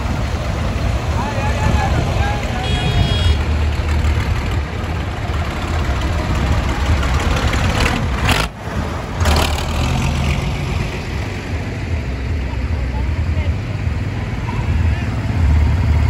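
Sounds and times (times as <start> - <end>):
tractor engine passing: 0.0 - 16.0.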